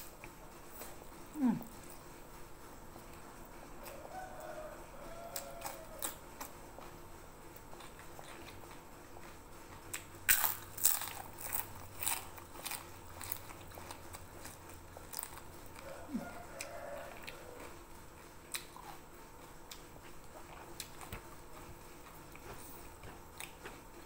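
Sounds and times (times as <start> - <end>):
crunching fried cracker: 3.8 - 24.0.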